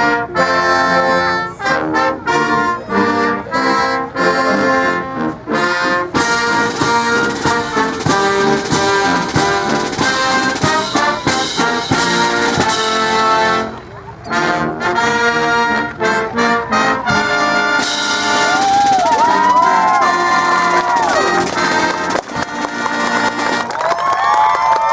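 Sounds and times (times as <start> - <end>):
brass music with steady beat: 0.0 - 23.8.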